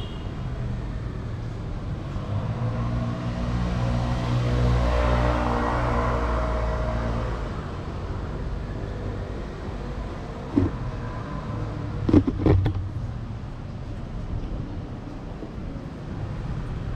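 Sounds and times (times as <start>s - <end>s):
passing vehicle engine hum: 1.4s - 16.9s.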